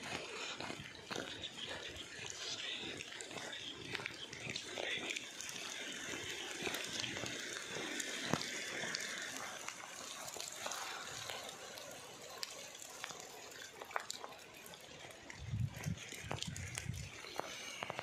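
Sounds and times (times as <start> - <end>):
rain falling steadily: 0.0 - 18.0
sharp ticks of raindrops: 0.0 - 18.0.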